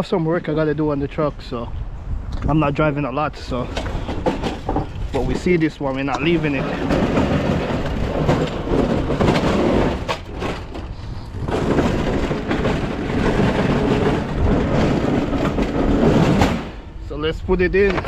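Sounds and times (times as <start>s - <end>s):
loud low rumbling: 0.0s - 17.8s.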